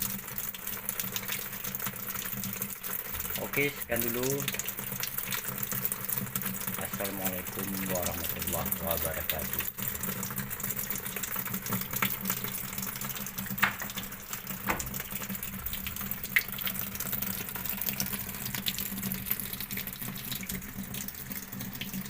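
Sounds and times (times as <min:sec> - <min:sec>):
water running into washing machine: 0:00.0 - 0:22.0.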